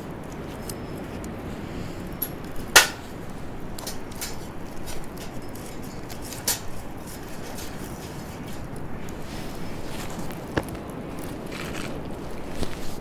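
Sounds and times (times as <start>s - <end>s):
fire crackling and popping: 0.0s - 13.0s
wood fire burning: 0.0s - 13.0s.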